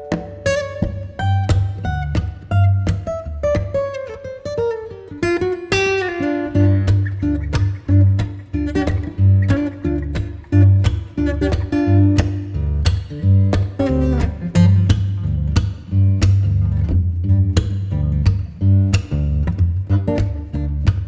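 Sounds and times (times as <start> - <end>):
bass line: 0.0 - 3.6, 6.6 - 21.0
beat: 0.0 - 4.0, 6.5 - 21.0
plucked guitar: 0.0 - 21.0.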